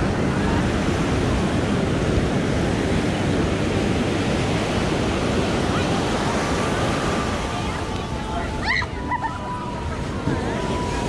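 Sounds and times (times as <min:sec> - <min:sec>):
surf breaking on beach: 0:00.0 - 0:11.0
wind on microphone: 0:00.0 - 0:11.0.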